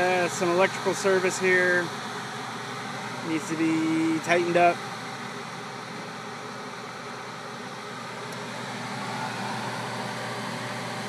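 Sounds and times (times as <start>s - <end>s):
air handler blower humming: 0.0s - 11.0s.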